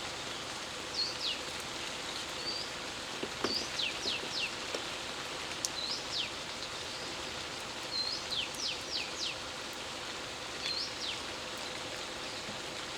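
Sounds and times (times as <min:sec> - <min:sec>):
rain falling: 0:00.0 - 0:12.9.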